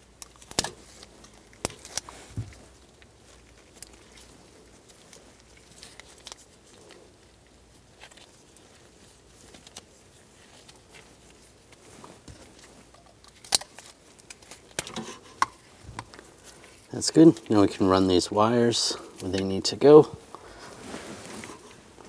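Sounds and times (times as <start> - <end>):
rustling of wires and tape: 0.0 - 22.0.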